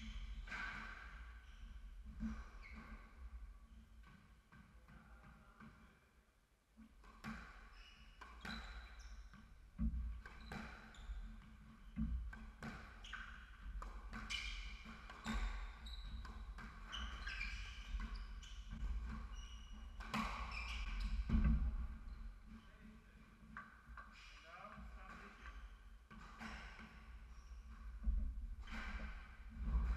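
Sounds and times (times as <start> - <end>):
sneakers squeaking: 0.0 - 3.3, 7.2 - 22.8, 23.6 - 29.9.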